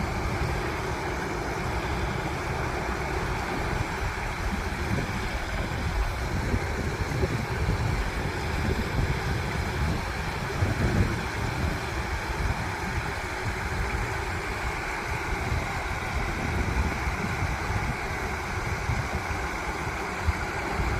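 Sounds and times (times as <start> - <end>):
river water flowing: 0.0 - 20.9
wind buffeting microphone: 0.0 - 20.9.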